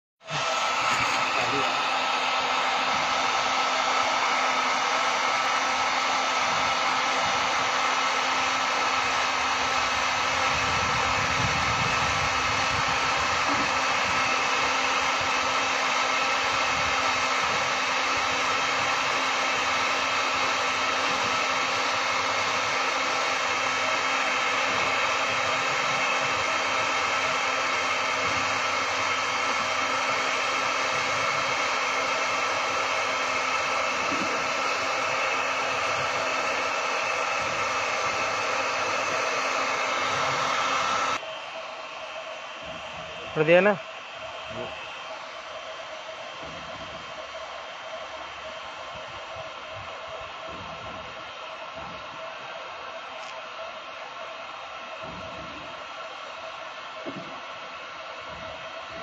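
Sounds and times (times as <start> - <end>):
hot-air blower hissing: 0.2 - 59.0.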